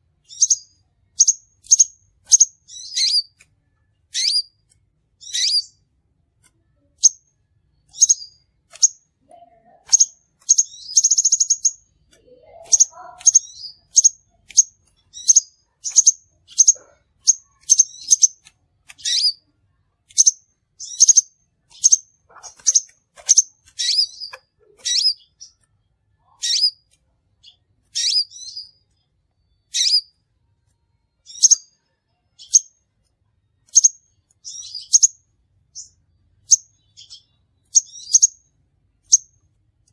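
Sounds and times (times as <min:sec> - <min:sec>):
bird chirping: 0:00.0 - 0:39.9
buzzy bird trill: 0:00.2 - 0:03.4, 0:04.1 - 0:04.6, 0:05.2 - 0:05.8, 0:06.8 - 0:19.5, 0:20.1 - 0:30.2, 0:31.2 - 0:32.8, 0:33.6 - 0:39.4.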